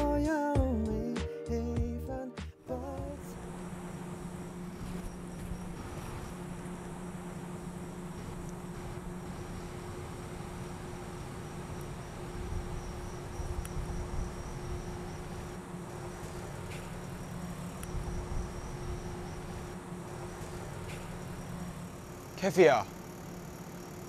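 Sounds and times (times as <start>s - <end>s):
low even hum: 0.0s - 24.0s.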